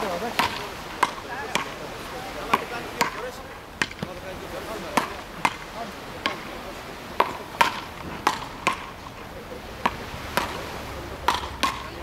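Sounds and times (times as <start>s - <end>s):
wooden paddles hitting ball: 0.0s - 9.2s, 9.8s - 12.0s.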